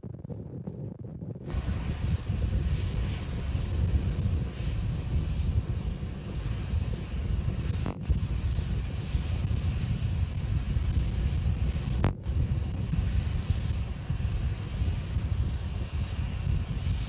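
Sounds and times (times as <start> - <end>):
rocket engines rumbling: 0.0 - 17.0.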